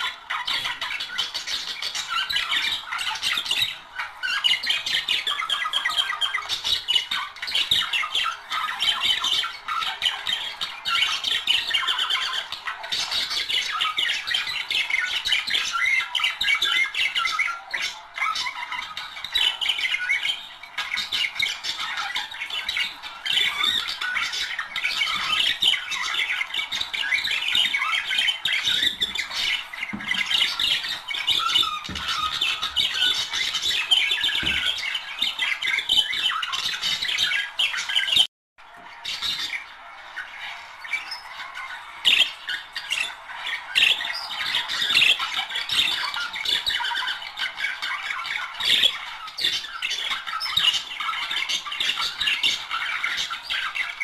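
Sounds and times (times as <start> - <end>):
budgerigars chattering: 0.0 - 38.3, 38.9 - 54.0.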